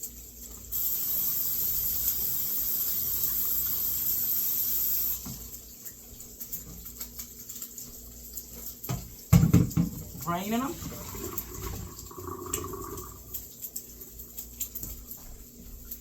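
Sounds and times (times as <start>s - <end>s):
water pouring into a sink: 0.0s - 15.1s.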